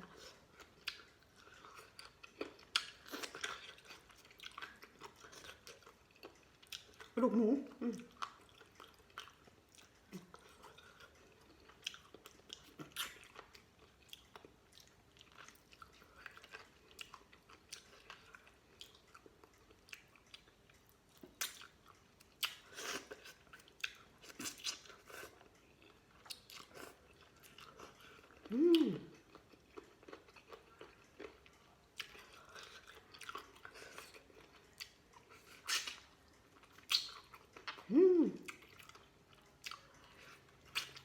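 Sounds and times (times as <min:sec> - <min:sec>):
person chewing: 0:00.0 - 0:41.0.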